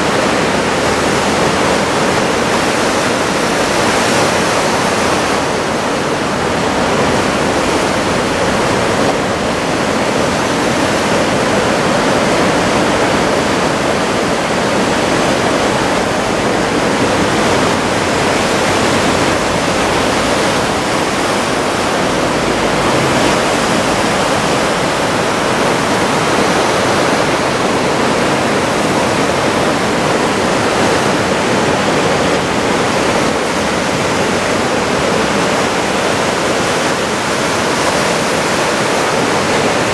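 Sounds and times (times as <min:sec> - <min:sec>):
heavy surf breaking: 0:00.0 - 0:39.9.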